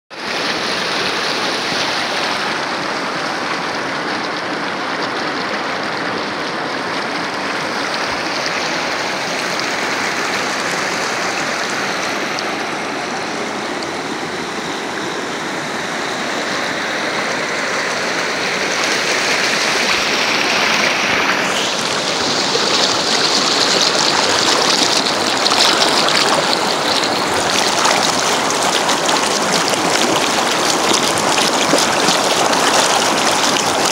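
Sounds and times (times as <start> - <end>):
river rushing over stones: 0.1 - 33.9.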